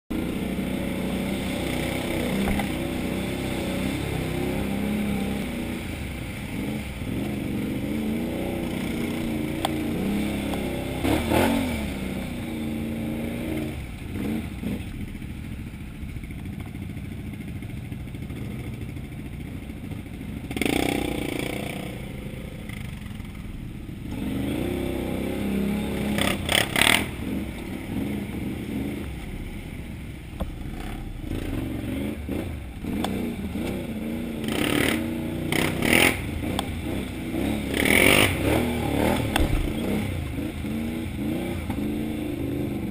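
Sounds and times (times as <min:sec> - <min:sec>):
atv engine revving: 0:00.1 - 0:42.9.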